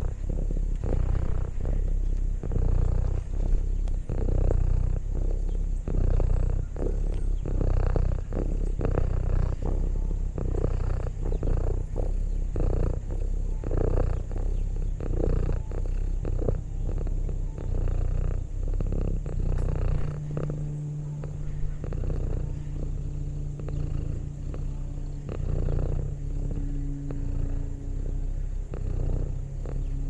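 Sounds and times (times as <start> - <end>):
cat purring: 0.0 - 30.0
steady low hum: 0.0 - 30.0.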